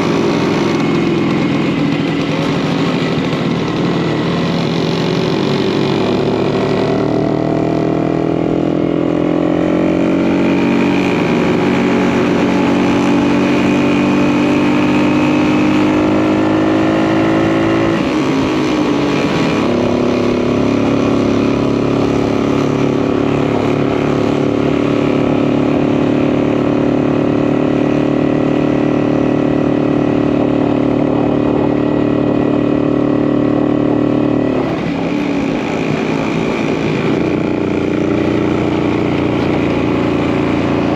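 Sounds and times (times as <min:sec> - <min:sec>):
two-stroke motorcycle engine running: 0:00.0 - 0:40.9.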